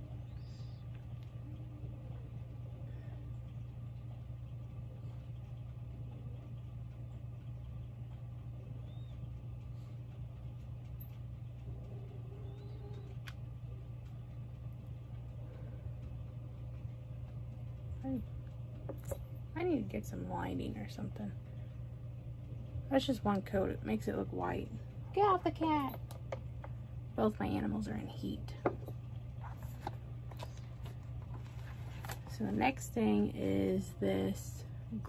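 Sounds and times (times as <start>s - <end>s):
motor humming: 0.0s - 35.0s.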